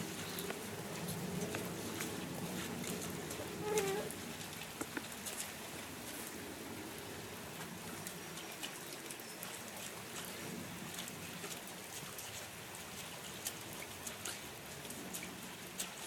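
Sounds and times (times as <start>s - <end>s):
light rain pattering: 0.0s - 16.0s.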